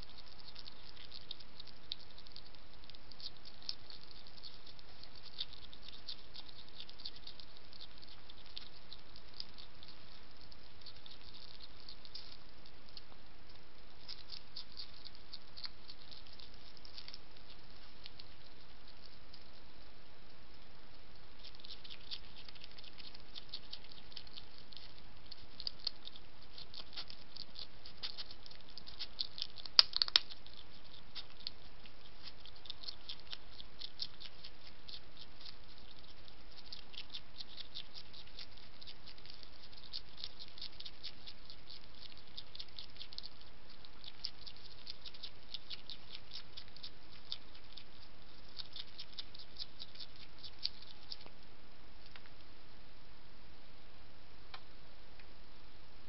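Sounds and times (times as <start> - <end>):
hedgehog crunching dry biscuits: 0.0 - 52.4.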